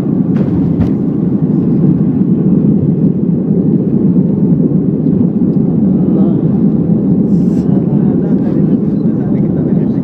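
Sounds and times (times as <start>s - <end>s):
jet airliner cabin rumble: 0.0s - 10.0s.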